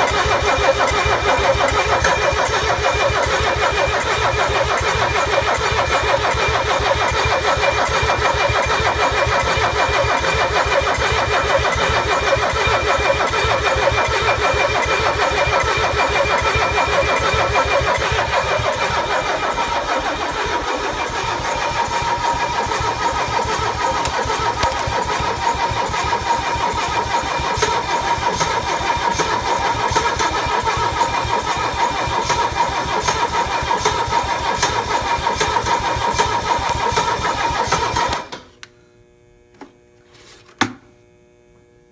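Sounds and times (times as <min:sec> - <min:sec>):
diesel engine cranking: 0:00.0 - 0:38.3.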